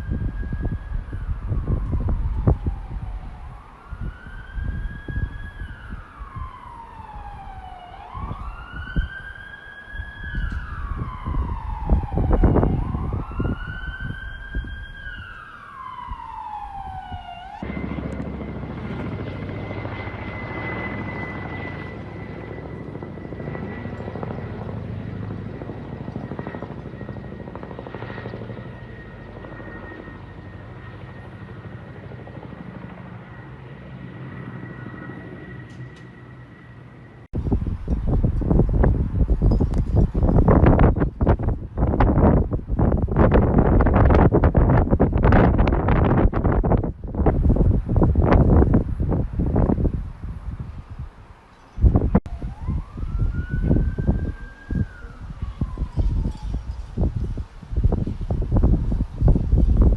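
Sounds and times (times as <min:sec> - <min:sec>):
emergency siren wailing: 0:00.0 - 0:50.8, 0:51.9 - 0:59.9
helicopter rumble: 0:00.0 - 0:59.9.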